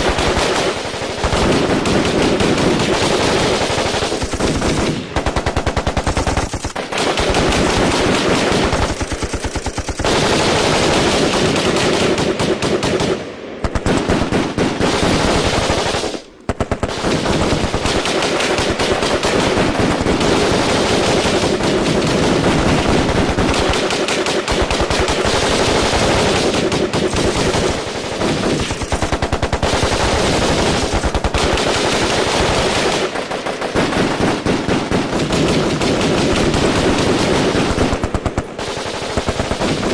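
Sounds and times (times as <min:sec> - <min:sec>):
automatic gunfire bursts: 0:00.0 - 0:39.9.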